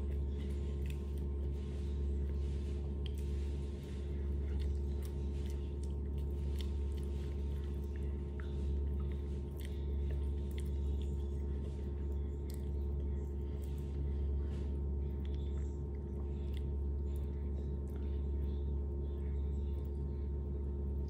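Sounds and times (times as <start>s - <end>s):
chewing: 0.0s - 18.5s
low hum: 0.0s - 21.0s.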